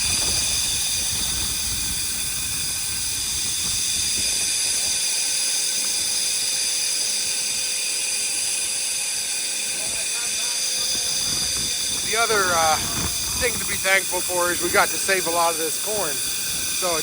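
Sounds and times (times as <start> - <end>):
high-pitched machine whine: 0.0 - 17.0.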